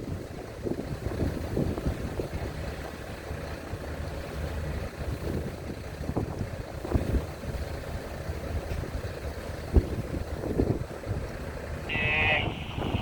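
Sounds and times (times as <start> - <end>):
wind buffeting microphone: 0.0 - 3.9, 4.7 - 13.0
ship engines rumbling: 0.0 - 13.0.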